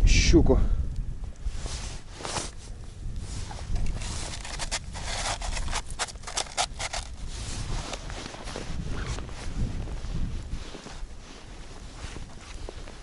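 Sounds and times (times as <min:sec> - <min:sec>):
wind rumbling on microphone: 0:00.0 - 0:13.0
scraping crunching in snow: 0:01.5 - 0:13.0.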